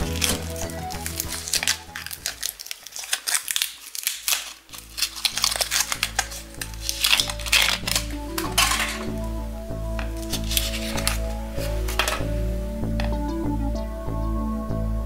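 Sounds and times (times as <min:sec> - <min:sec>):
foil wrapper crinkling: 0:00.0 - 0:13.2
background music: 0:00.0 - 0:15.0.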